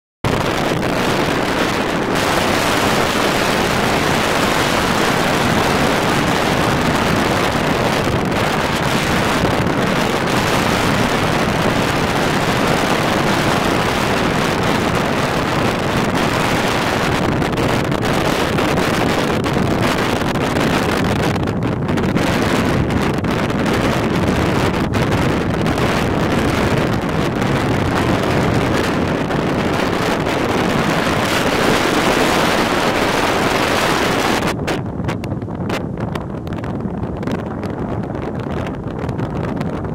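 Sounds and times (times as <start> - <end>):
strong wind on microphone: 0.2 - 39.9.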